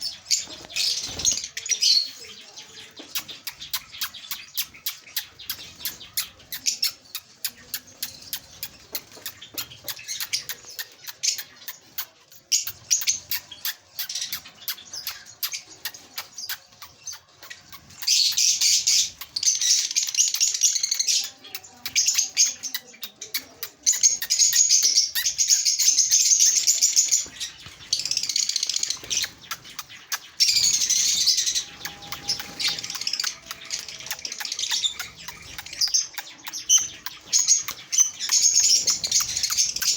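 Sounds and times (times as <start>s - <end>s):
birds chirping: 0.0s - 39.9s
high-pitched bird chattering: 0.0s - 39.9s.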